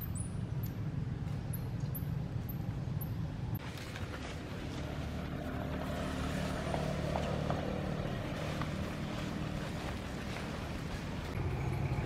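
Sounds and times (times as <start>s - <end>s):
low engine drone: 0.3s - 12.0s.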